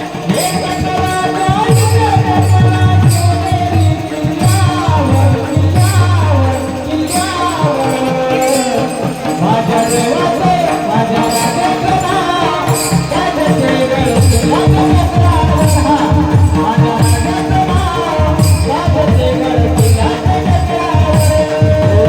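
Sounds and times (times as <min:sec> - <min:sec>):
devotional singing: 0:00.0 - 0:22.0
hand cymbals striking a beat: 0:00.0 - 0:22.0.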